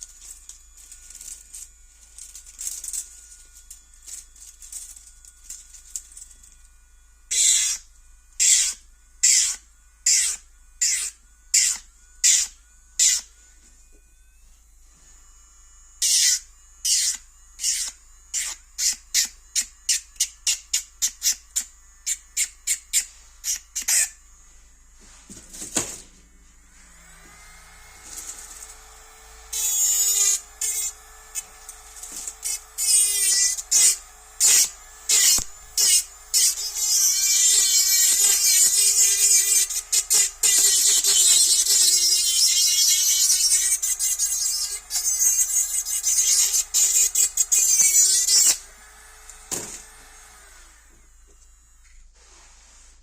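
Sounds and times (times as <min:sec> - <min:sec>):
drill bit grinding nail: 0:00.0 - 0:13.4, 0:16.0 - 0:24.3, 0:27.0 - 0:52.0
nail drill whining: 0:00.0 - 0:24.5, 0:25.5 - 0:52.1.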